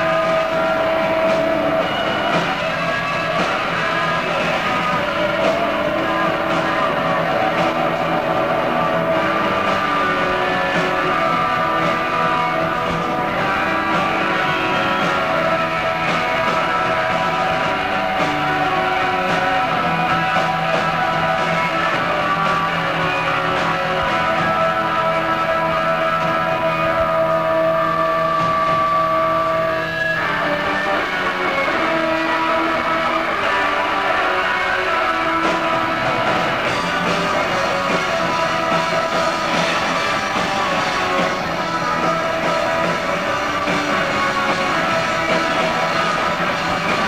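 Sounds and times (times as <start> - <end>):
electric guitars ringing: 0.0 - 47.0
live rock band playing: 0.0 - 47.0.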